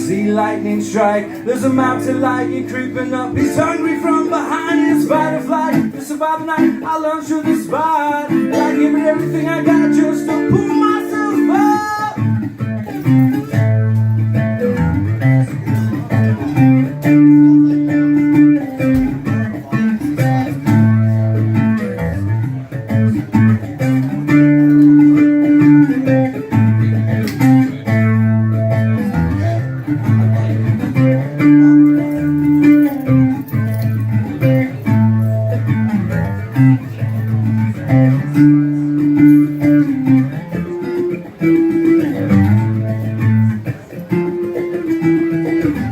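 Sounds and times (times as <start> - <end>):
bass line: 0.0 - 45.9
guitar melody: 0.0 - 45.9.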